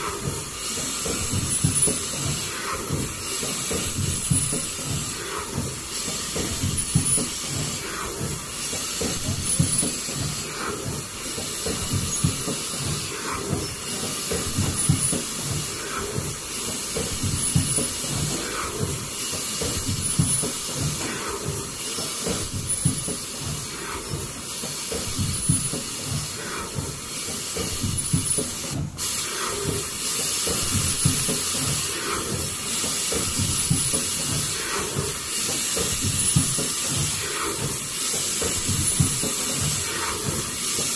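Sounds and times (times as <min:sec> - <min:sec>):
faint machine knock: 0:00.0 - 0:40.9
machine hiss and rumble: 0:00.0 - 0:40.9.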